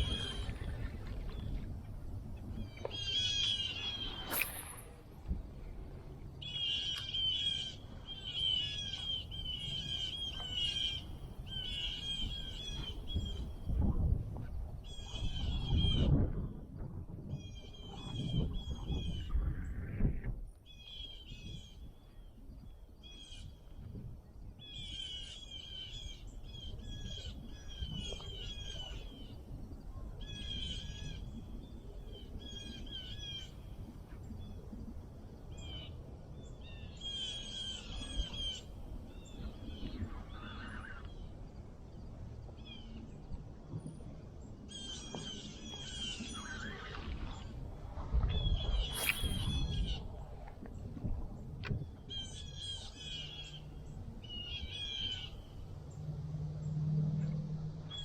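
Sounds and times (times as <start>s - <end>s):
wind on microphone: 0.0s - 6.6s, 8.0s - 24.7s, 26.0s - 55.8s.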